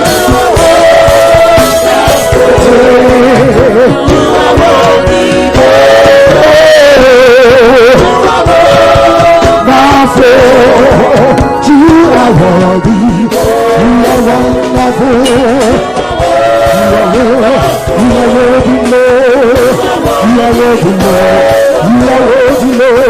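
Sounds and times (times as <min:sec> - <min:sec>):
band with steady drum beat: 0:00.0 - 0:23.0
person singing with vibrato: 0:00.0 - 0:23.0.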